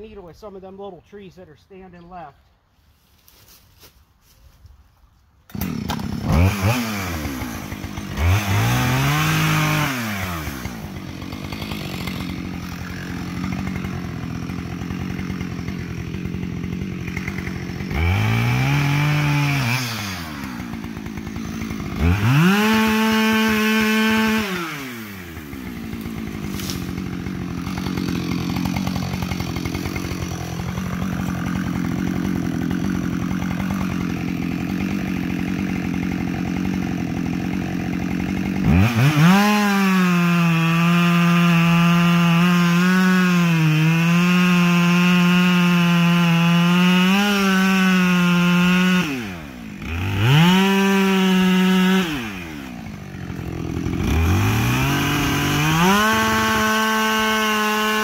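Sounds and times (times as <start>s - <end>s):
chainsaw revving and idling: 5.4s - 58.0s.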